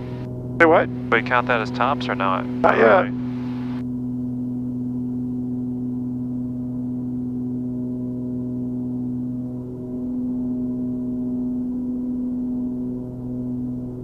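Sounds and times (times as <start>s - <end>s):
aircraft engines droning in cabin: 0.0s - 14.0s.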